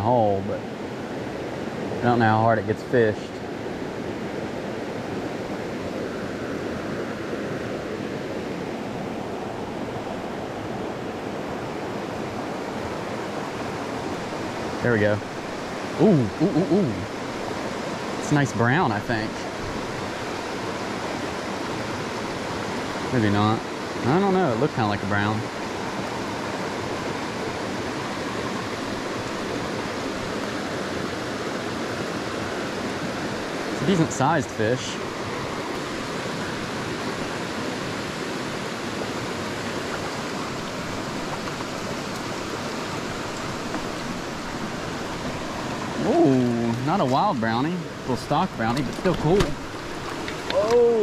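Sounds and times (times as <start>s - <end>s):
creek rushing over rocks: 0.0s - 51.0s.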